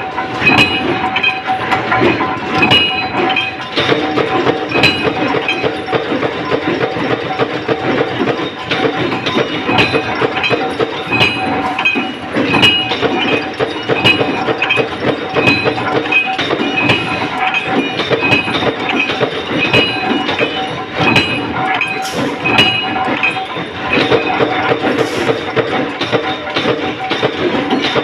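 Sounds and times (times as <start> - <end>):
steady ringing tones: 0.0 - 28.0.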